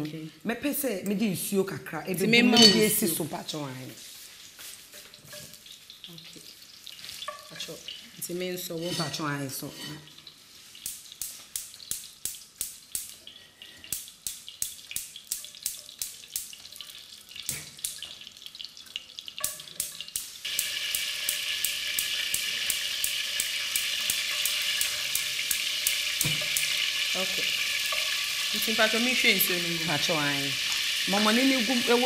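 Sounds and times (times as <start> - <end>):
food sizzling in hot oil: 2.3 - 32.0.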